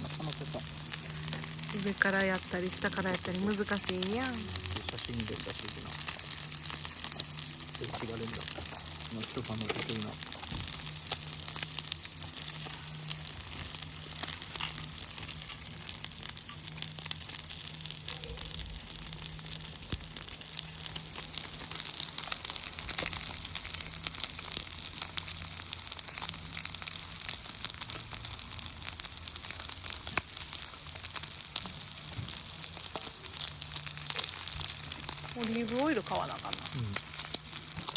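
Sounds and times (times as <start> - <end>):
low steady hum: 0.0 - 37.9
steak sizzling on a griddle: 0.0 - 37.9.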